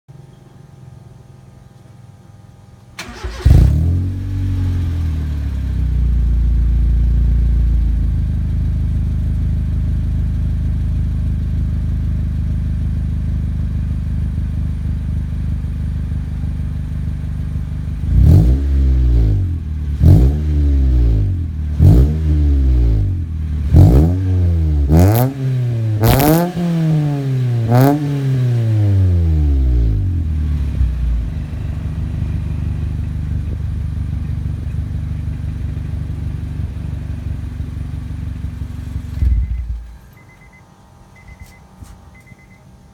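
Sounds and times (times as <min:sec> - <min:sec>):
car engine idling and revving: 0:03.0 - 0:42.6.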